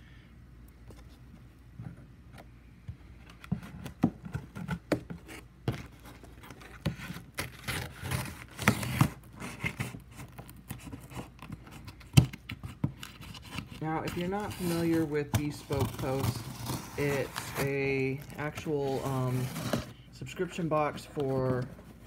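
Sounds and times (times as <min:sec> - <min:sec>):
cardboard and tape crackling: 0:03.1 - 0:22.0.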